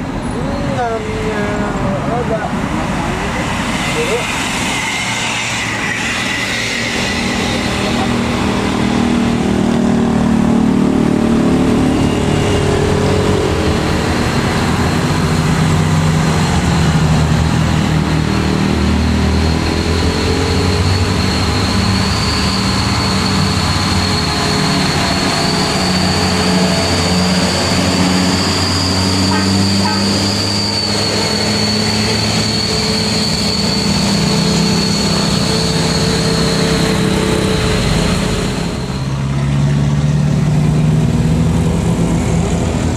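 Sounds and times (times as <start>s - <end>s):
truck diesel engine drone: 0.0s - 42.9s
thin high whine: 3.1s - 39.7s.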